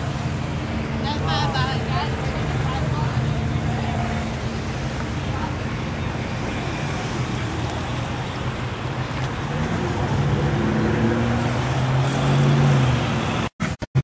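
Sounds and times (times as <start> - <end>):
car engine rumbling: 0.0 - 13.8
traffic noise: 0.0 - 14.0.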